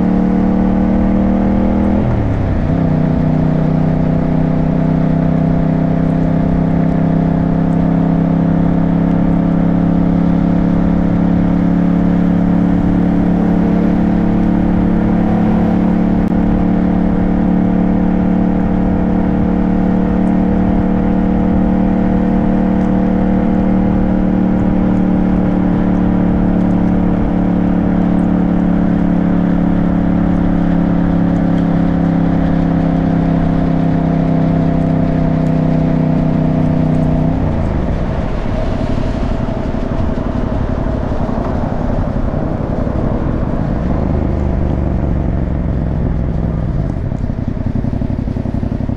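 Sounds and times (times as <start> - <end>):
motorcycle engine cruising: 0.0 - 48.9
wind and road noise: 0.0 - 48.9.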